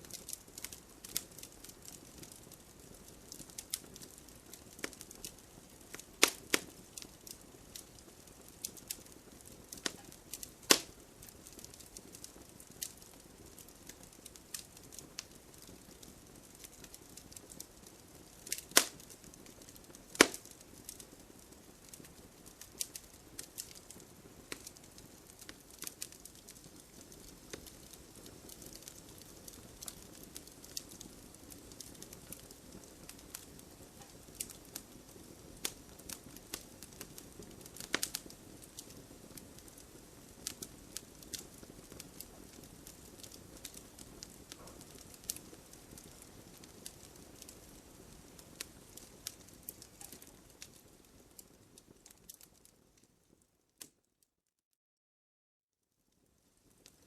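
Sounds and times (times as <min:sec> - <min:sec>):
hiss of flames: 0:00.0 - 0:52.4
campfire crackling and popping: 0:00.0 - 0:54.0, 0:56.2 - 0:57.0.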